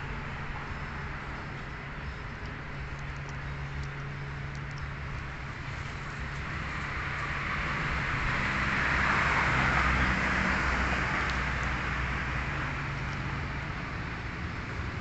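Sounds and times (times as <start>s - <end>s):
engine idling with hiss: 0.0s - 15.0s.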